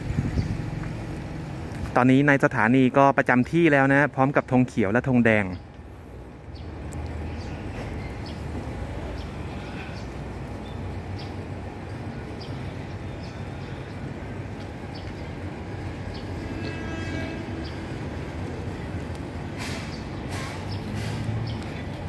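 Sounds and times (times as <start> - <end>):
diesel train rumbling: 0.0 - 2.7, 4.8 - 22.0.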